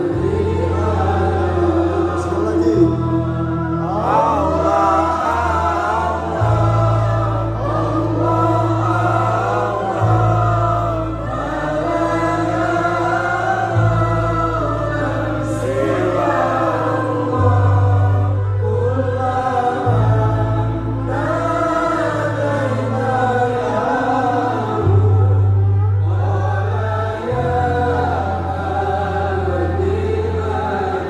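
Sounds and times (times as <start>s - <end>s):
amplified instrumental accompaniment: 0.0s - 31.0s
group singing devotional song: 0.0s - 31.0s
long held bass notes: 0.0s - 31.0s.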